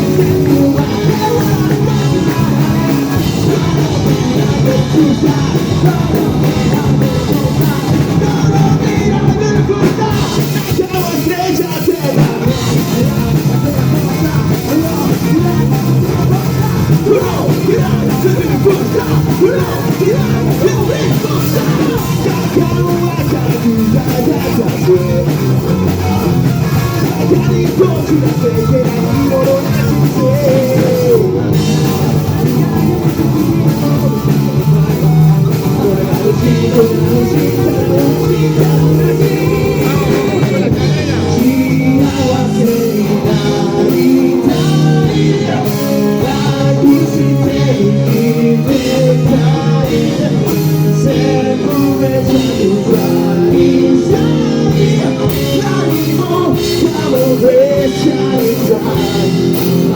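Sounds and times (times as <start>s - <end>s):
person singing: 0.0s - 59.9s
rock band playing: 0.0s - 59.9s.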